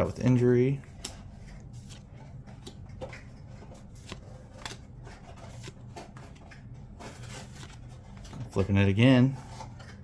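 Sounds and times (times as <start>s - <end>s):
low steady hum: 0.0s - 10.0s
cards clicking and sliding: 0.1s - 9.0s.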